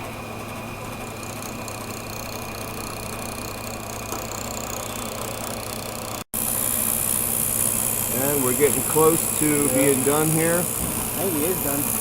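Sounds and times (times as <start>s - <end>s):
drill press motor running: 0.0s - 12.0s
cutting tool on spinning wood: 0.5s - 12.0s.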